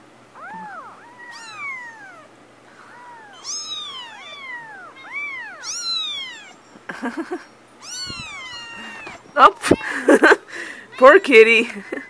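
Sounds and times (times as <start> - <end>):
kittens mewing: 0.3 - 11.2.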